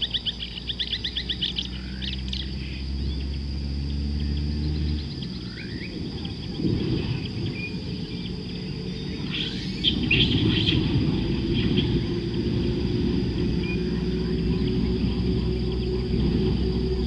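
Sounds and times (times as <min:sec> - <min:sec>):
birds chirping: 0:00.0 - 0:17.0
insect drone: 0:00.0 - 0:17.0
low rumbling noise: 0:00.0 - 0:17.0.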